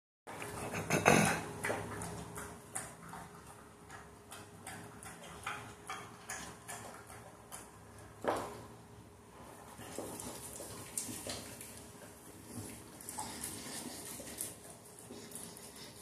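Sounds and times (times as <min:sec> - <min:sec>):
dog chewing meat: 0:00.3 - 0:08.7, 0:09.4 - 0:16.0.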